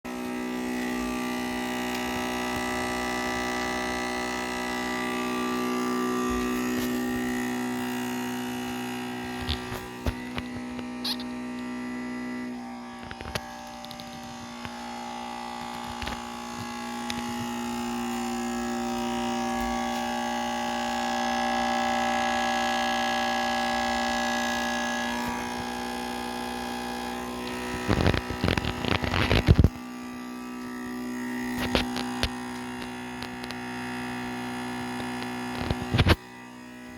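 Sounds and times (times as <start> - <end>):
computer buzzing: 0.0 - 36.9.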